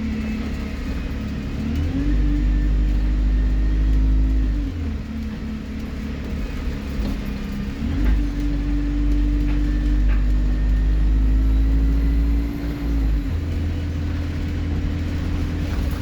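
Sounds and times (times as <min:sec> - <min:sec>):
bus engine revving: 0:00.0 - 0:16.0.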